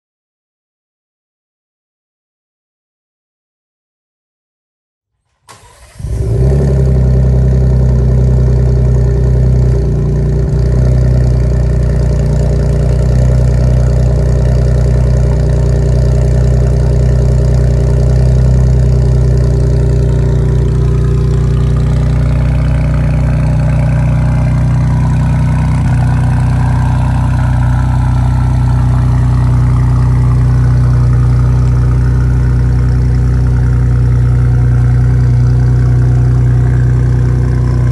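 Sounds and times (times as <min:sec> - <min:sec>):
engine idling loudly: 0:05.8 - 0:37.9.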